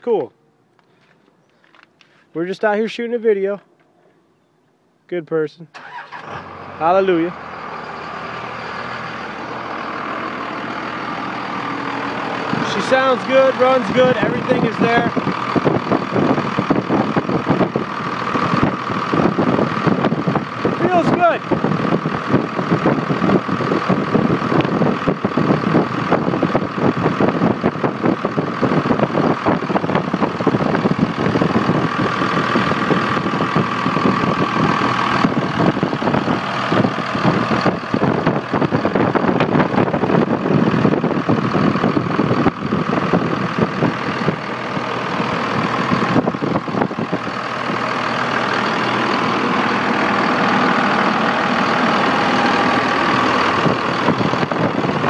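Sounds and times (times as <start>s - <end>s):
diesel engine idling: 5.7s - 55.0s.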